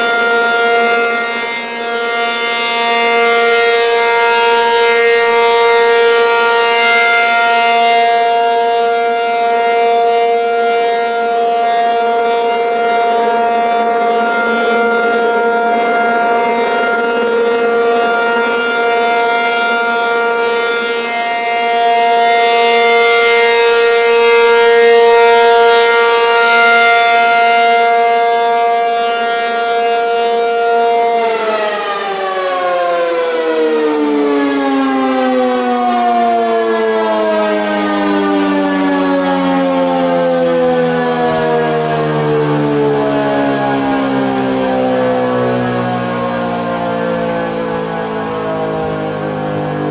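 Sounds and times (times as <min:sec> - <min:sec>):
tornado siren tone: 0:00.0 - 0:49.9.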